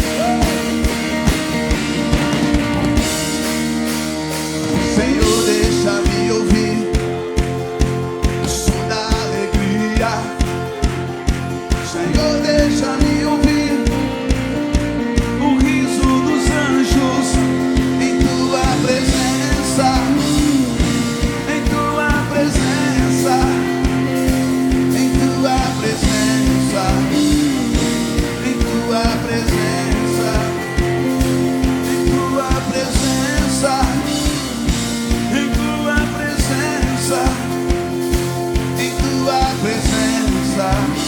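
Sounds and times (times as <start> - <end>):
fast drum beat: 0.0 - 41.0
live worship band: 0.0 - 41.0
person singing: 0.0 - 41.0.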